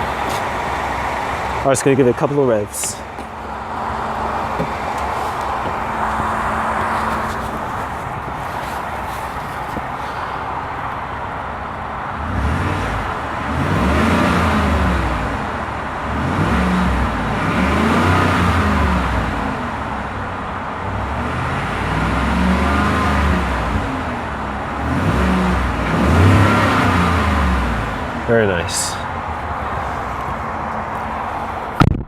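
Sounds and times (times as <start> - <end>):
truck engine idling and revving: 0.0 - 32.0.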